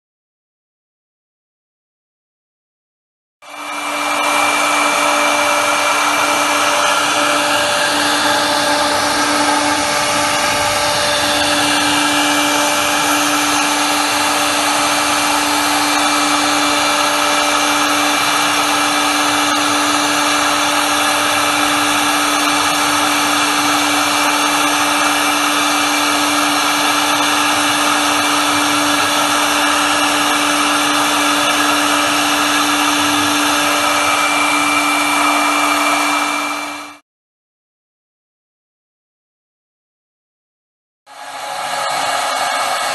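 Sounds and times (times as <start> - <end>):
router spindle hum and whine: 3.4 - 37.0, 41.1 - 42.9
wood cutting noise: 3.4 - 37.0, 41.1 - 42.9.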